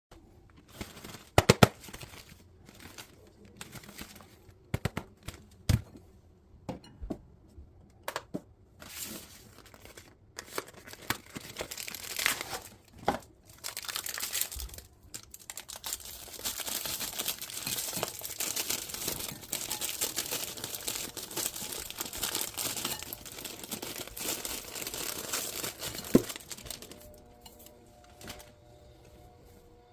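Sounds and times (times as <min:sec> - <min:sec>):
wrapper crinkling: 0:00.6 - 0:05.5, 0:08.8 - 0:28.5.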